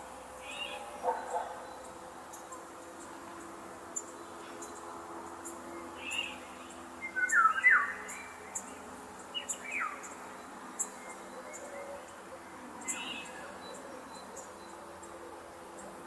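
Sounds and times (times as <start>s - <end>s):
faint high insect chirps: 0.0s - 16.0s.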